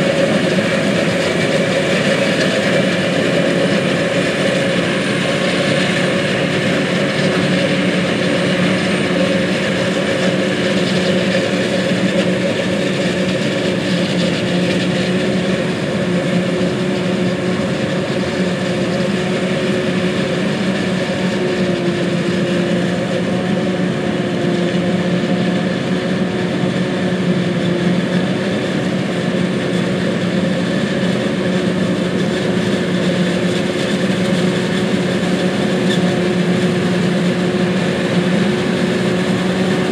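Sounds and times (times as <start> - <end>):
forage harvester engine droning: 0.0 - 39.9.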